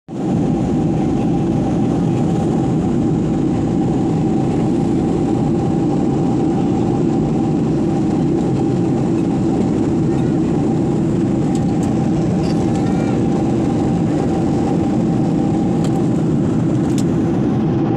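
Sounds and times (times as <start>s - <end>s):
airliner cabin engine rush: 0.1s - 17.9s
constant hum: 0.2s - 17.9s.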